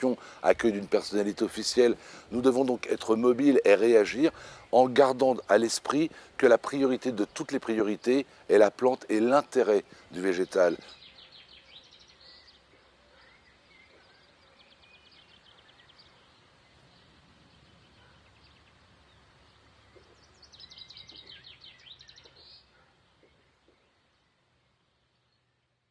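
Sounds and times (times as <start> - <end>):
birdsong chirps and trills: 0.0 - 25.9.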